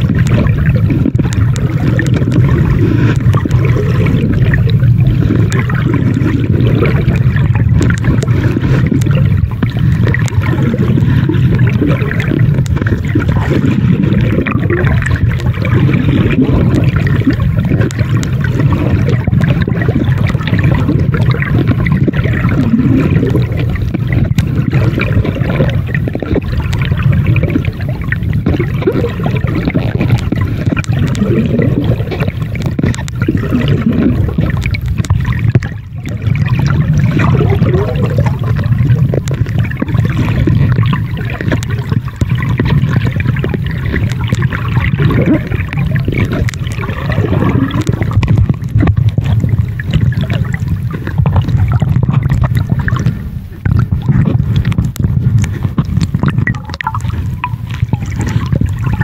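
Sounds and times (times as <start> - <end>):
underwater water rushing and gurgling: 0.0 - 59.0.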